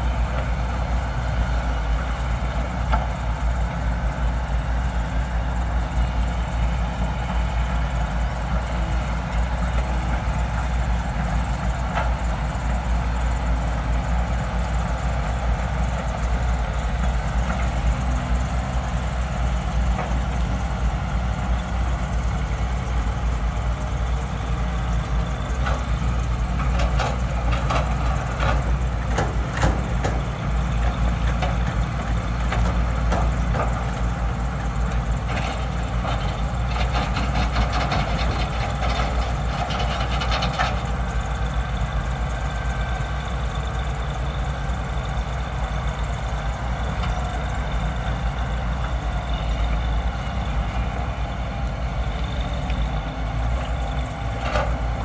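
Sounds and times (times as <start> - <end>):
diesel excavator engines running: 0.0 - 55.0.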